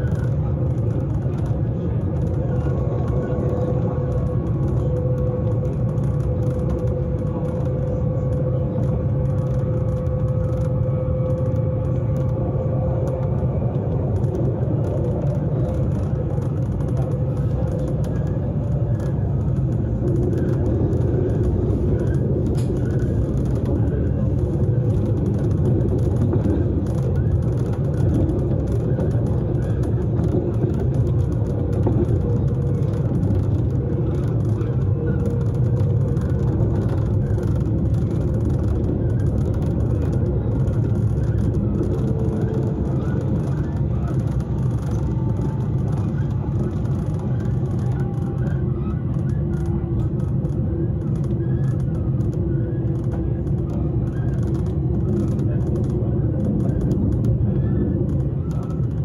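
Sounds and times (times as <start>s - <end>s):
train wheels rumbling: 0.0s - 59.0s.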